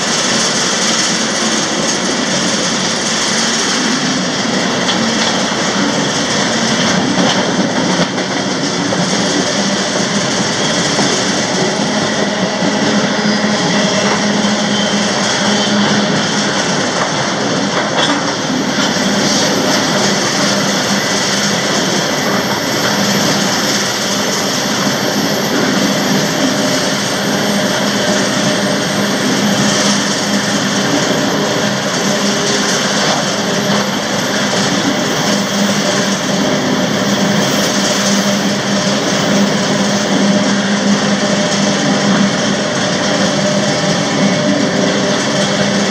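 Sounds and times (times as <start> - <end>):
freight train rolling on rails: 0.0 - 45.9.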